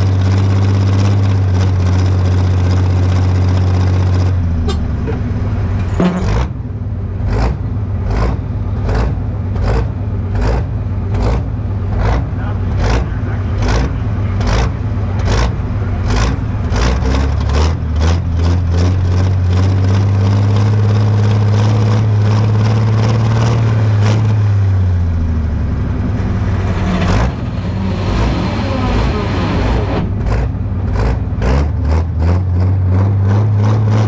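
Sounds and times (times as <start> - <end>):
diesel engine pulses and drone: 0.0 - 34.0.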